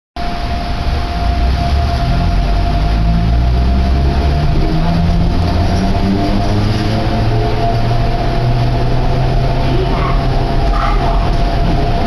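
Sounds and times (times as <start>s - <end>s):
electric train rumbling: 0.2s - 12.0s
high hum: 0.2s - 12.0s.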